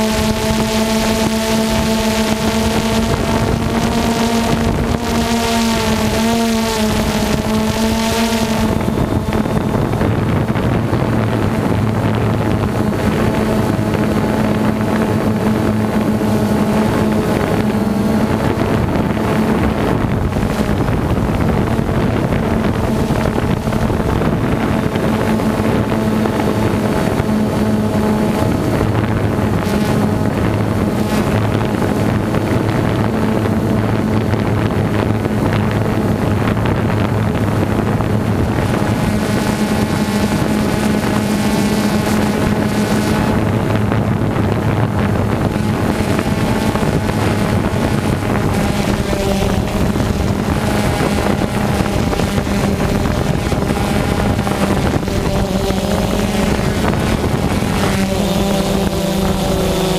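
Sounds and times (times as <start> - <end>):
drone propellers buzzing: 0.0 - 59.9
wind on microphone: 0.0 - 59.9.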